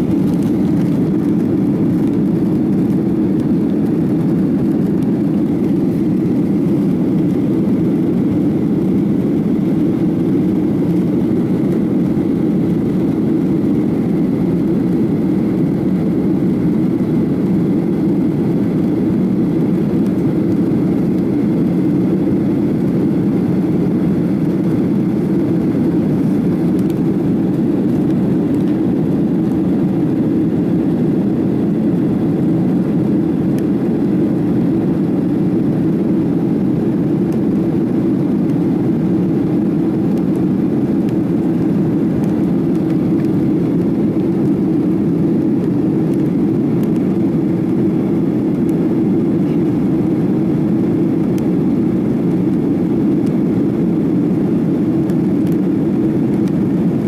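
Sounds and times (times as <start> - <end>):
jet engine cabin roar: 0.0 - 57.0.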